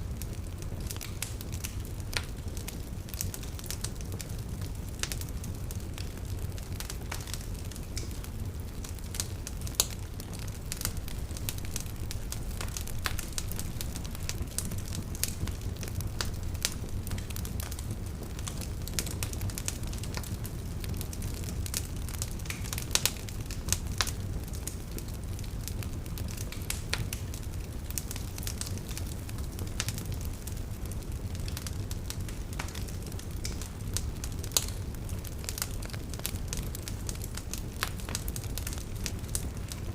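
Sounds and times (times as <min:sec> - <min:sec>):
fire crackling and popping: 0:00.0 - 0:39.9
low rumble of fire: 0:00.0 - 0:39.9.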